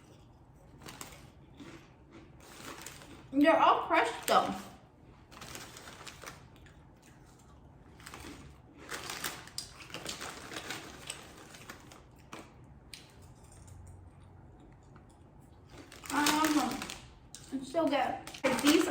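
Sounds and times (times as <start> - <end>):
chips crunching while chewed: 0.0 - 3.3, 4.0 - 18.9.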